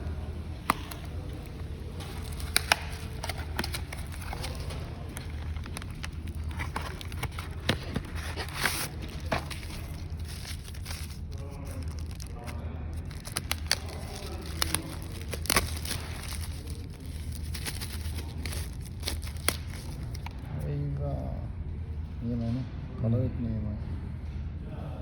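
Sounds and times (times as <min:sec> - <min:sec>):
plastic packaging crinkling and tearing: 0:00.0 - 0:20.6.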